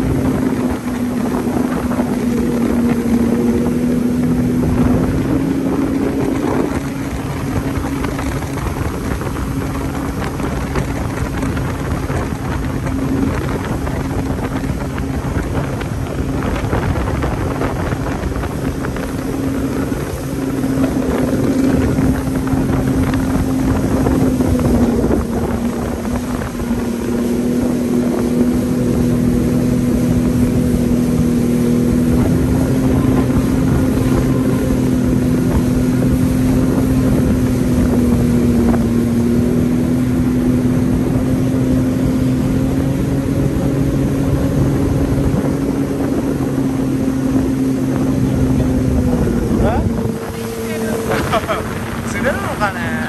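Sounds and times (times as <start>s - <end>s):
jet ski engine drone: 0.0s - 53.0s.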